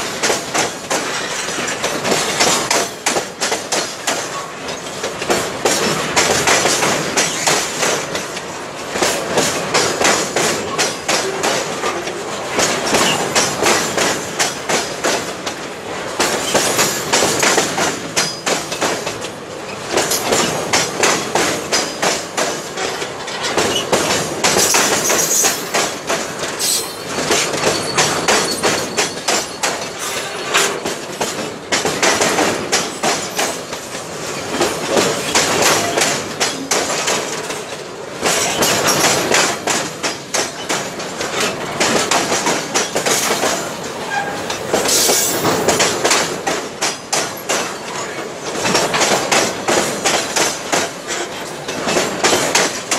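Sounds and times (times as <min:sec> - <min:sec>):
train wheels clattering over rail joints: 0:00.0 - 0:52.9.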